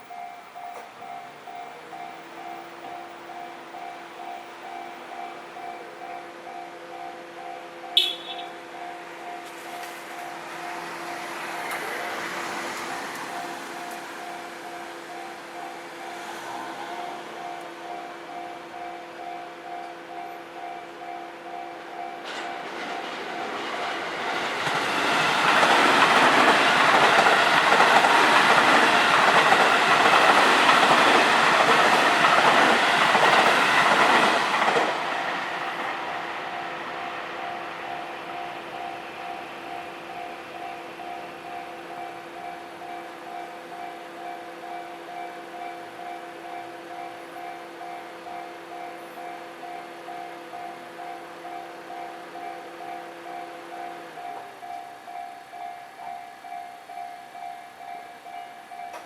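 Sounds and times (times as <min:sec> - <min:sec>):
train rushing and rolling: 0:08.1 - 0:57.0.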